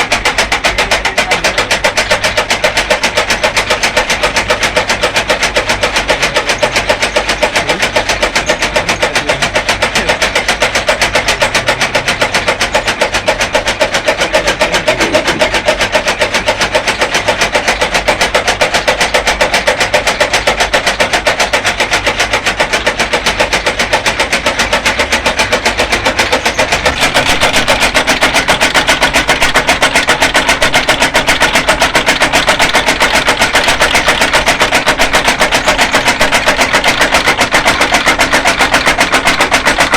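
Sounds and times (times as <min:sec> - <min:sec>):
fodder chopper knocking: 0:00.0 - 0:39.9.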